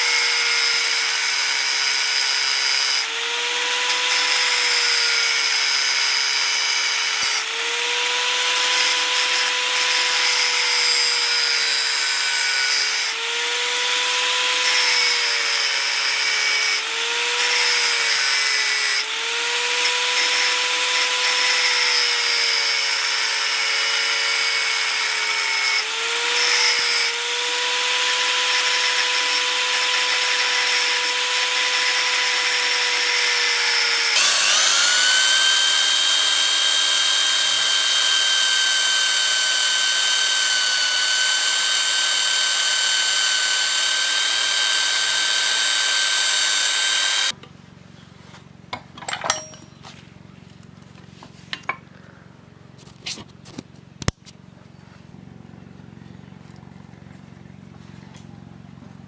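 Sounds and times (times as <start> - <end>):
power tool motor whine: 0.0 - 47.4.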